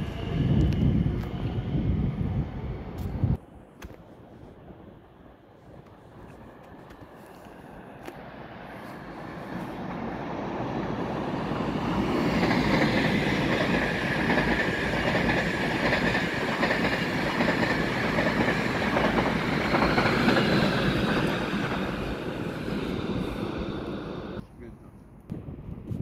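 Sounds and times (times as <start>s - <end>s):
train wheels rumbling on rails: 0.0s - 3.4s, 4.6s - 26.0s.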